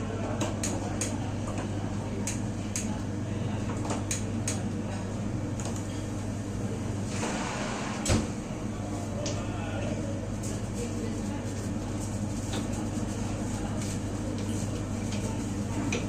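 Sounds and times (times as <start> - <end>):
low hum of kitchen machinery: 0.0 - 16.0.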